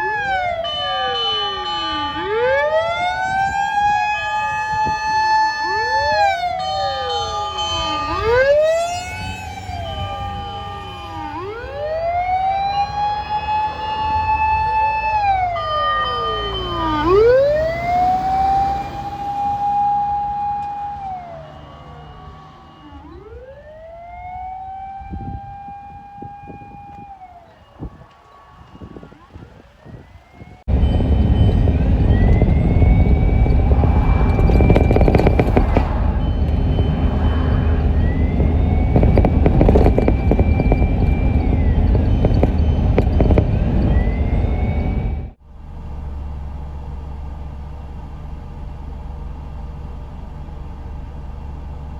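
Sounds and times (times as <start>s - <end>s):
siren wailing: 0.0s - 45.4s
low rumble of vehicle noise: 0.0s - 51.9s.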